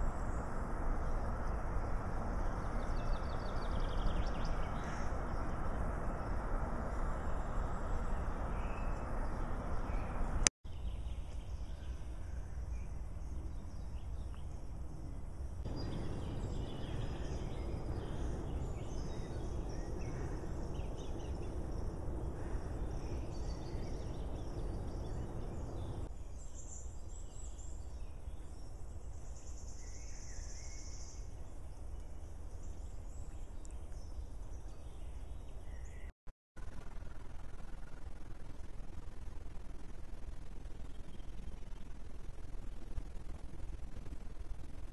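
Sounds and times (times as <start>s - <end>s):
low rumble and hiss: 0.0s - 36.0s.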